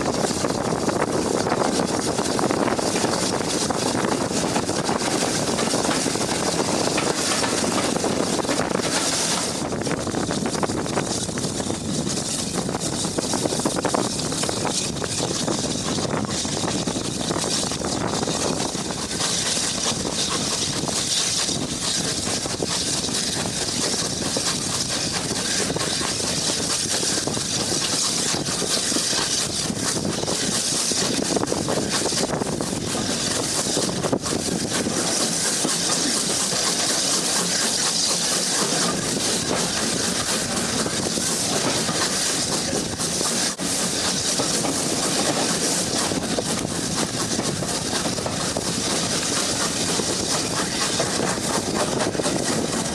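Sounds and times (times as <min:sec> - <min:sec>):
train running with hissing: 0:00.0 - 0:52.9.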